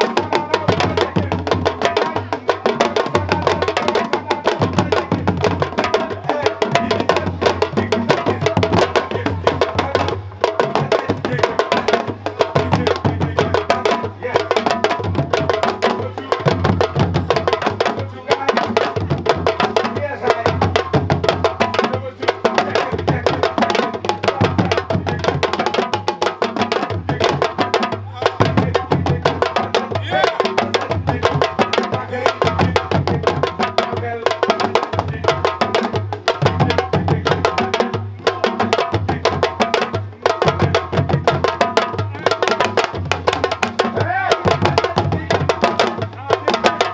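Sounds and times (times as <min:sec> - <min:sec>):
drum ensemble fast rhythm: 0:00.0 - 0:46.9.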